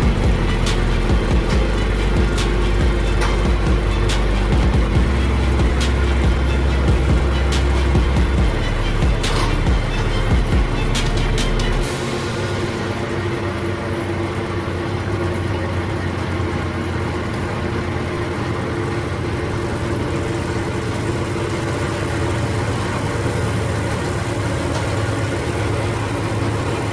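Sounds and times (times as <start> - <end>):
wood chipper diesel engine: 0.0 - 26.9.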